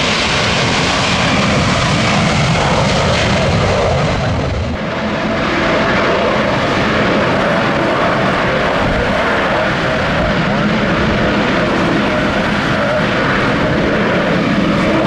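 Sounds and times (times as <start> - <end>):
jet engines at high power: 0.0 - 15.0.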